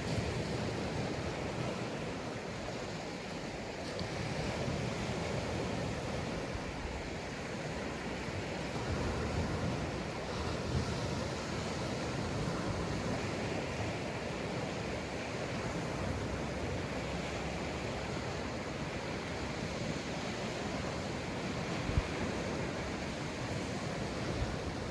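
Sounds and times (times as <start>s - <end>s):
sea waves breaking on beach: 0.0s - 24.9s.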